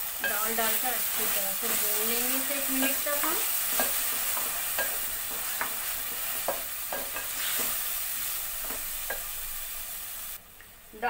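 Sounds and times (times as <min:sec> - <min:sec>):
lentils sizzling in hot oil: 0:00.0 - 0:11.0.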